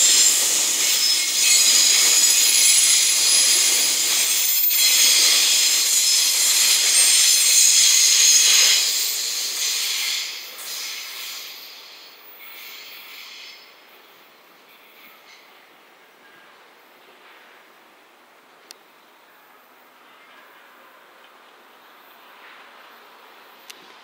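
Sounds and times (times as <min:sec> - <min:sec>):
freight train wheels hissing on rails: 0:00.0 - 0:16.0, 0:20.6 - 0:24.0.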